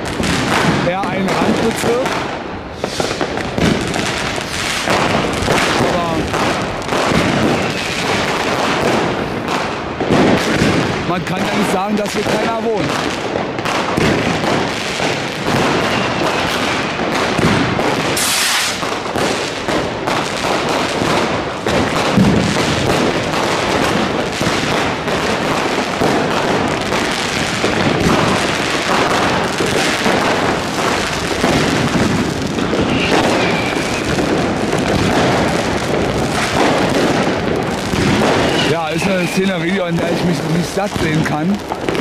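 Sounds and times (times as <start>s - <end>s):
fireworks crackling and banging: 0.0s - 42.0s
loud sharp firework burst: 0.0s - 42.0s.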